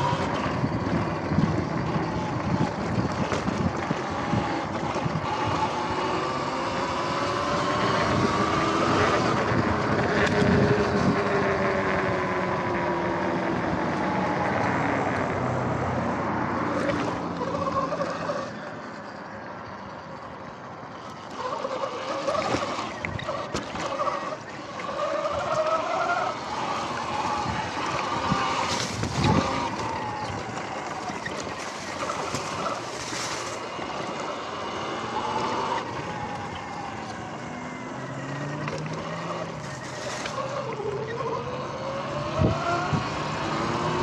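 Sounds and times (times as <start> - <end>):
electric motor whine: 0.0 - 15.4, 21.0 - 44.0
wind and tyre noise: 0.0 - 44.0.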